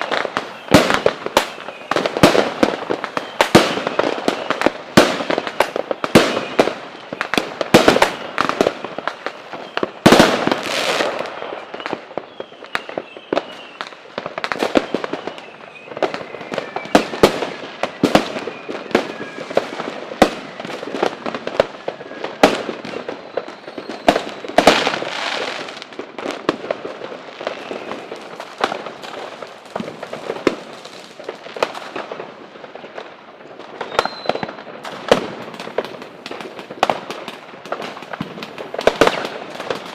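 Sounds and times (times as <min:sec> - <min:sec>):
fireworks bangs: 0:00.0 - 0:39.9
fireworks whistles: 0:00.0 - 0:39.9.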